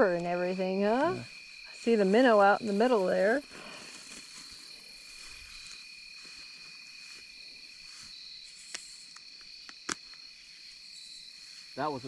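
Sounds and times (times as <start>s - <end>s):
insects singing: 0.0s - 12.0s.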